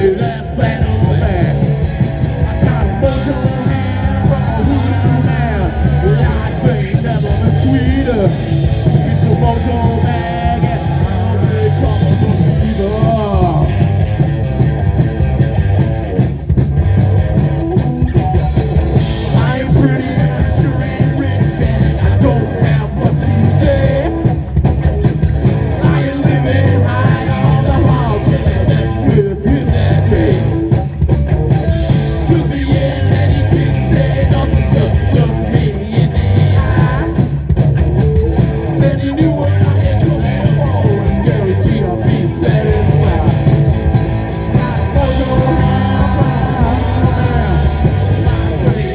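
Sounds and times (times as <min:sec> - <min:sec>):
drum kit: 0:00.0 - 0:48.9
electric guitar: 0:00.0 - 0:48.9.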